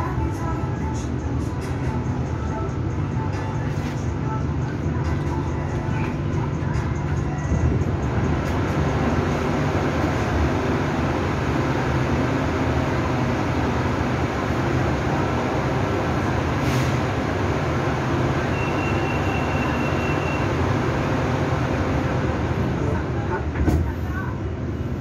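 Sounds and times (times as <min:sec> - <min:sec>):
train wheels and motors rumbling: 0:00.0 - 0:25.0.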